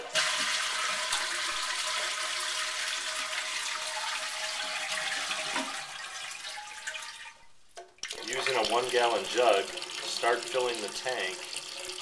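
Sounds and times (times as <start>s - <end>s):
toilet flushing: 0.0s - 12.0s.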